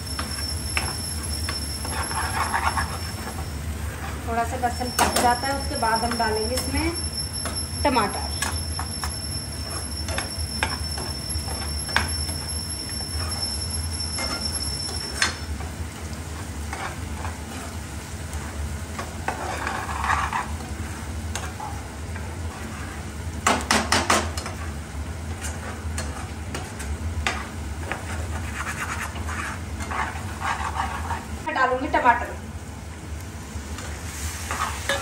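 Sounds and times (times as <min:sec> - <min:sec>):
spatula scraping a pan: 0:00.0 - 0:31.4, 0:34.1 - 0:35.0
food sizzling in a pan: 0:00.0 - 0:35.0.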